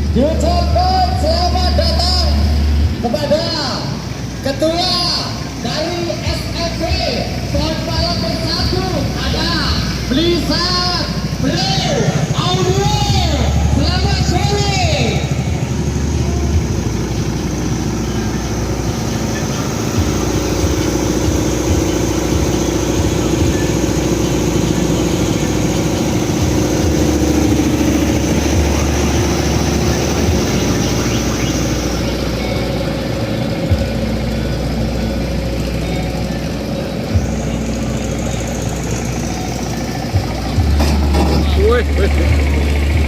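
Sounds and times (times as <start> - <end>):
loud deep bass tones: 0.0 - 43.0
droning wall of sound: 0.4 - 43.0.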